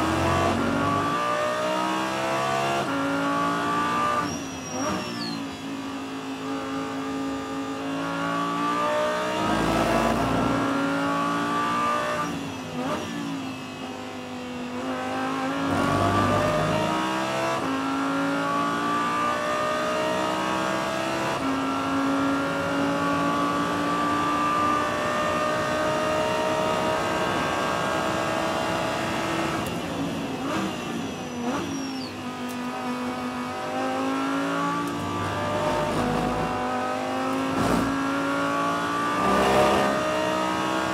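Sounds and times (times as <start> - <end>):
racing engine at full throttle: 0.0 - 40.9.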